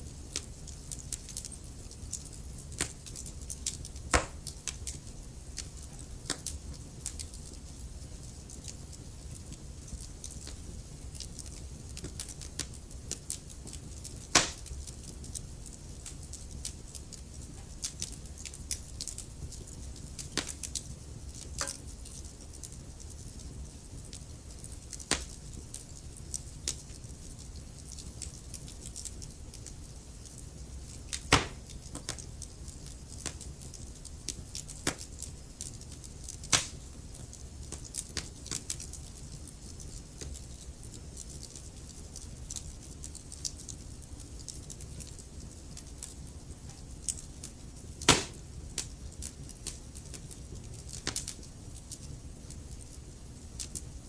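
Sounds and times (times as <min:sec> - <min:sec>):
logs crackling in fireplace: 0:00.0 - 0:54.0
low rumble of fire: 0:00.0 - 0:54.0.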